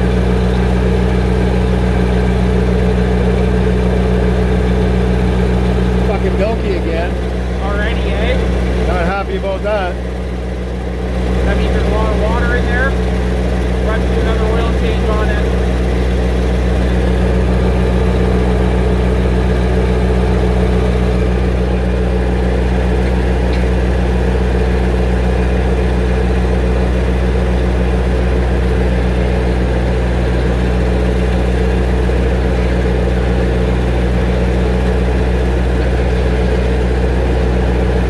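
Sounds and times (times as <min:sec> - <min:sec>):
tractor engine idling: 0:00.0 - 0:38.0.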